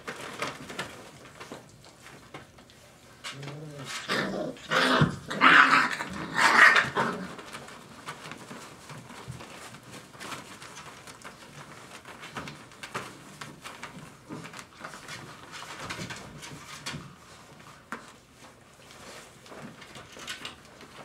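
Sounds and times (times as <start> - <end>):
shredded paper rustling: 0.0 - 2.6, 3.3 - 21.0
paws scrabbling: 0.0 - 21.0.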